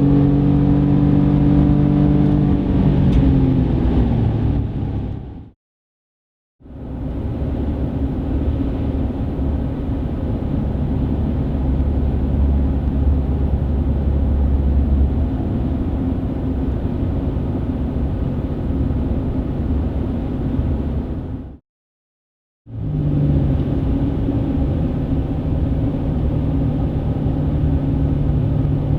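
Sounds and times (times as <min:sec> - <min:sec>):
engine exhaust drone: 0:00.0 - 0:05.6, 0:06.6 - 0:21.6, 0:22.7 - 0:28.9.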